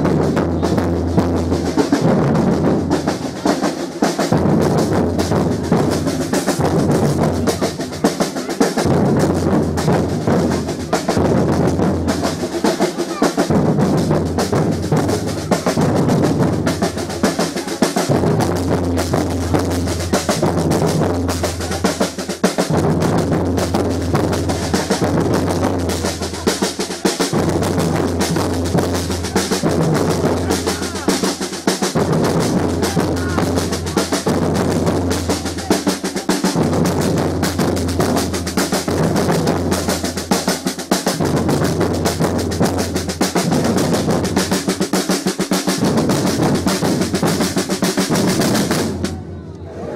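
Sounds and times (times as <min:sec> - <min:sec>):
drum ensemble street rhythm: 0:00.0 - 0:49.9.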